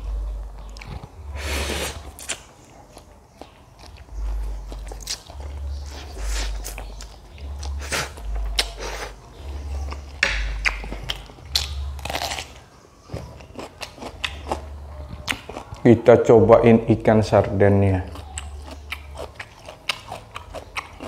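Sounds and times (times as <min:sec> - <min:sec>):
person biting and chewing: 0:00.7 - 0:09.2, 0:09.8 - 0:12.6, 0:13.2 - 0:15.8, 0:18.1 - 0:21.0.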